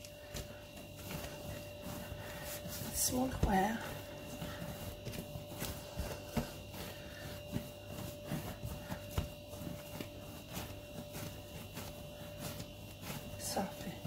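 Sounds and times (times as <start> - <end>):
faint steady hum: 0.0 - 14.0
hands kneading dough: 0.0 - 14.0.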